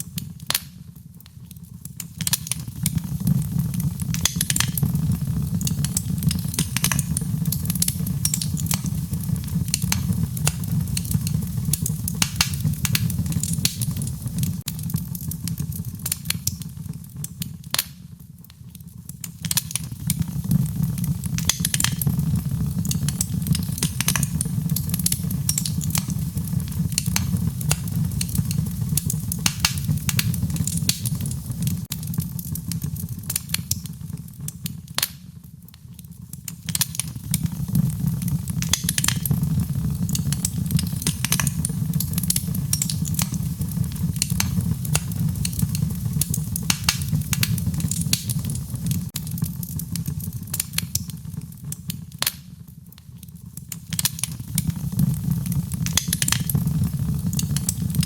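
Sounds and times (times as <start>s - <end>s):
crackles and pops of burning wood: 0.0s - 58.0s
wood fire burning: 0.0s - 58.0s.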